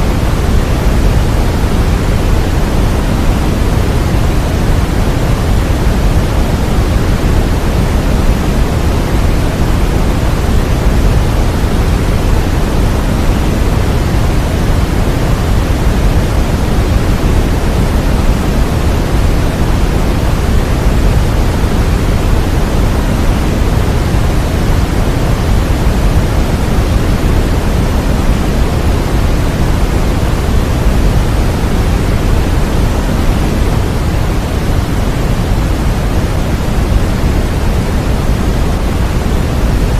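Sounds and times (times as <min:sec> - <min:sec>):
low white noise hiss: 0:00.0 - 0:39.9.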